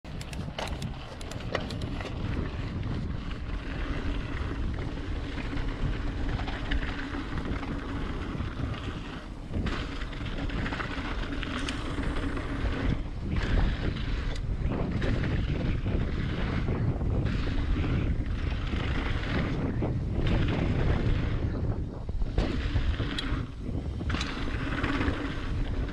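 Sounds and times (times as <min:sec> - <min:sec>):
bike clicks and rattles: 0:00.0 - 0:25.9
wind buffeting microphone: 0:00.0 - 0:25.9
tyres rolling over rocky dirt: 0:00.1 - 0:25.9.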